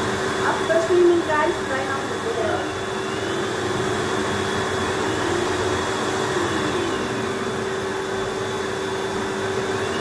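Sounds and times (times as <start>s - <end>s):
hair dryer running: 0.0s - 10.0s.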